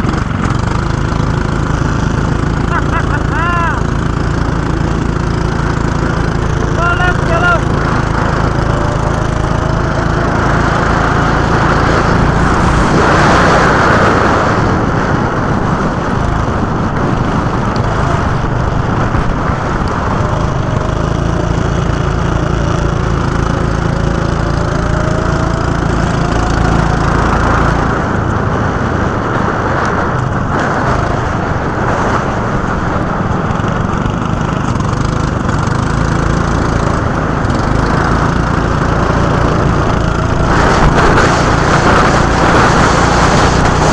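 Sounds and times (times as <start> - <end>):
go-kart engine running: 0.0 - 43.9
road noise: 0.0 - 43.9.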